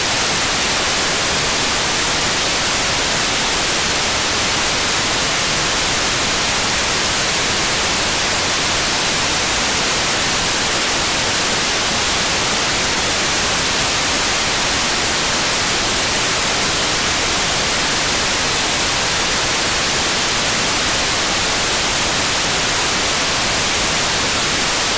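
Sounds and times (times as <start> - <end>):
radio receiver hiss: 0.0 - 24.9.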